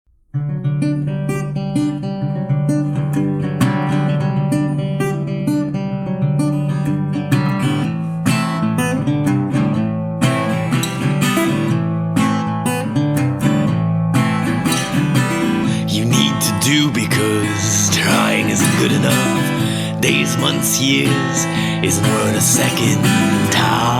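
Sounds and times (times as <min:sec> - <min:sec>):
plucked guitar notes: 0:00.1 - 0:23.9.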